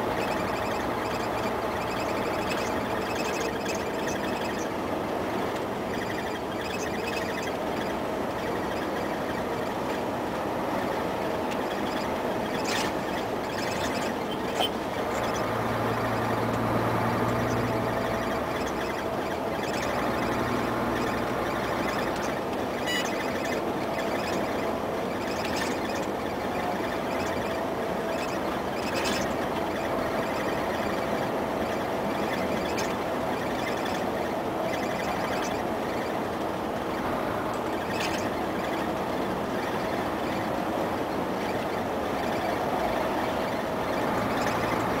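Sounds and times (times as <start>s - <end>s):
road noise: 0.0s - 45.0s
truck diesel engine: 0.0s - 45.0s.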